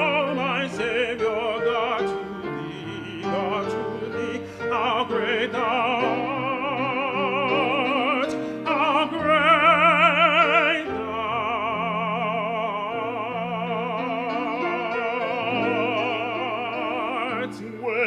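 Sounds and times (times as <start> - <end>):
operatic tenor singing: 0.0 - 18.0
piano accompaniment: 0.0 - 18.0.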